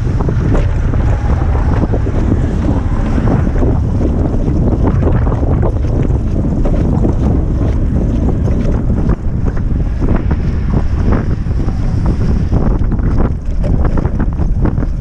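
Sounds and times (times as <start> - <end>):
wind blowing across microphone: 0.0 - 15.0.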